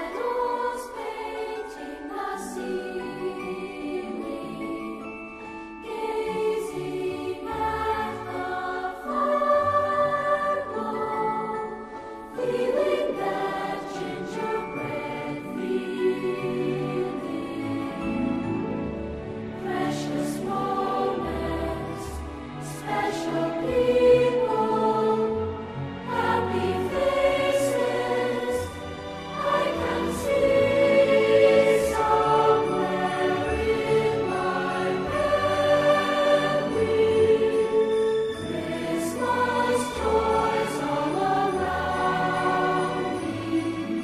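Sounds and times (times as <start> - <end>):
choir singing held chords: 0.0 - 44.0
orchestral accompaniment: 0.0 - 44.0.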